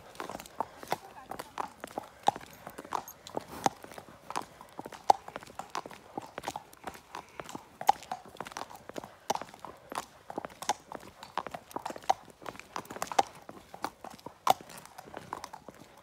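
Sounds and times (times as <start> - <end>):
horse hooves on asphalt: 0.0 - 16.0.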